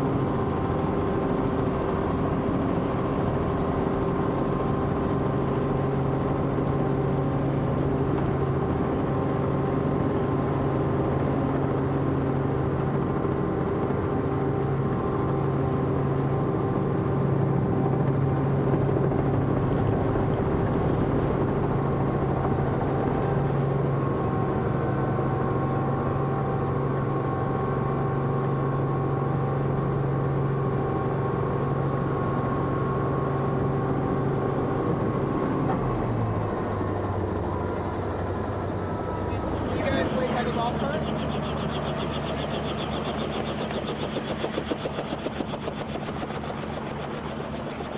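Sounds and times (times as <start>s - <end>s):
helicopter rotor and engine drone: 0.0s - 47.9s.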